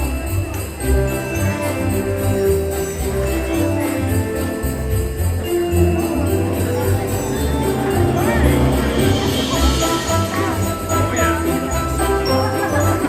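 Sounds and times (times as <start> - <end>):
christmas music: 0.0 - 13.0
sleigh bells shaken: 0.0 - 13.0.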